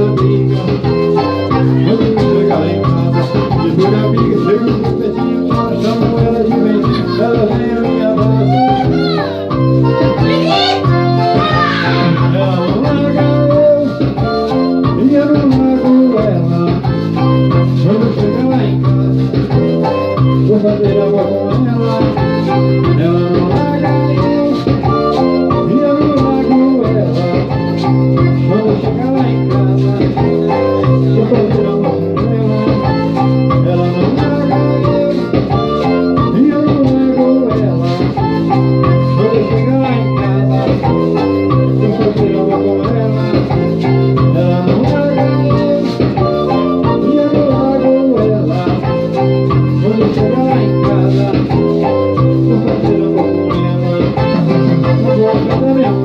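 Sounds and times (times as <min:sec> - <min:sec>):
electronic keyboard music: 0:00.0 - 0:56.0.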